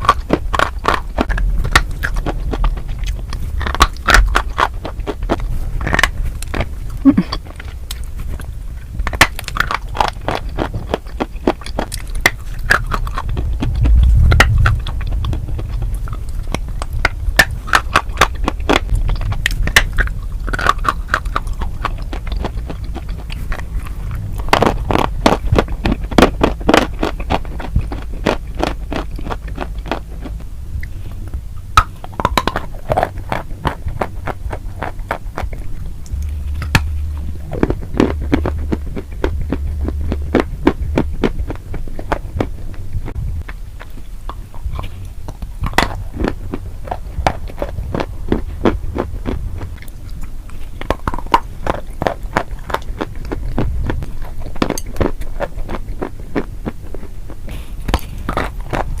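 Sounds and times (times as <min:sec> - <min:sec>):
crunchy chewing: 0:00.0 - 0:59.0
steady low hum: 0:00.0 - 0:59.0.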